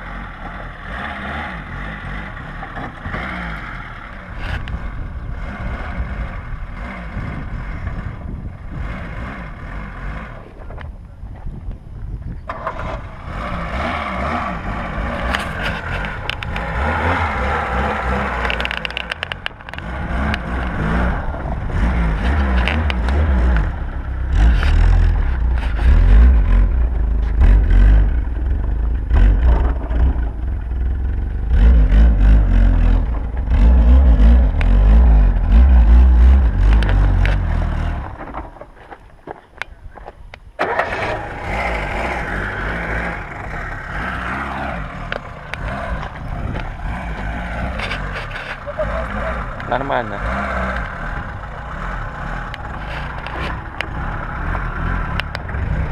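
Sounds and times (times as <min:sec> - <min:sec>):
car engine revving under load: 0:00.0 - 0:11.6, 0:12.4 - 0:39.7, 0:40.4 - 0:55.9.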